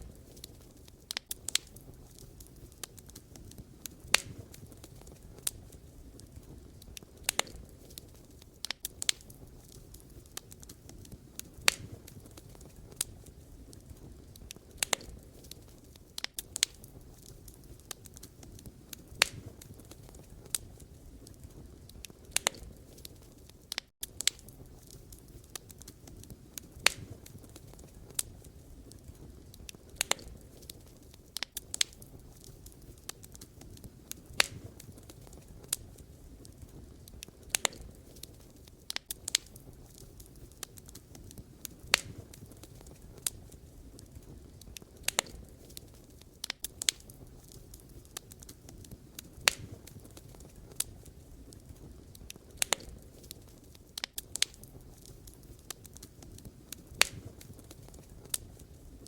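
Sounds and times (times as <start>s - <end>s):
low rumble of flame: 0.0s - 59.0s
wood fire crackling: 0.0s - 59.0s.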